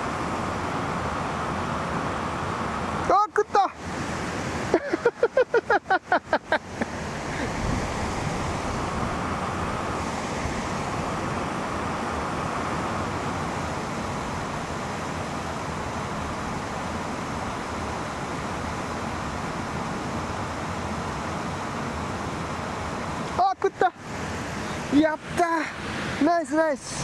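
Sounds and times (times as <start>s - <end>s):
mountain stream rushing water: 0.0s - 27.0s.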